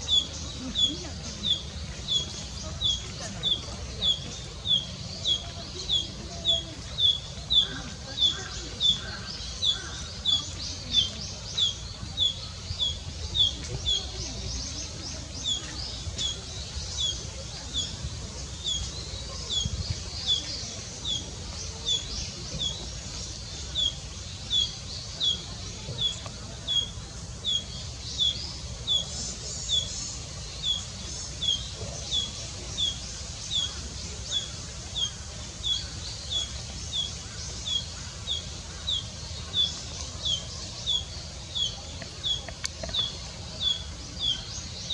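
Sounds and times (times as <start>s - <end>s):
birds chirping faintly: 0.0s - 44.9s.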